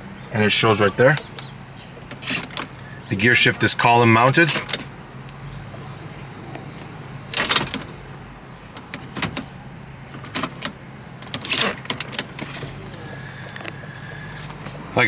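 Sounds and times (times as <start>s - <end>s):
car engine idling hum: 0.0s - 15.0s
gear shift clicks and rustles: 0.2s - 15.0s.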